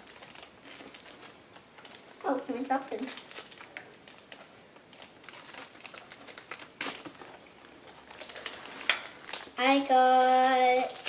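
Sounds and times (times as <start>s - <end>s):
plastic wrappers crinkling: 0.0s - 11.0s.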